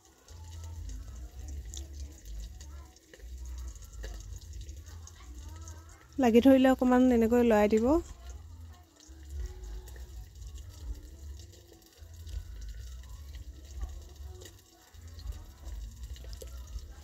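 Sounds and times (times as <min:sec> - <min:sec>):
food sizzling and bubbling in gravy: 0:00.0 - 0:17.0.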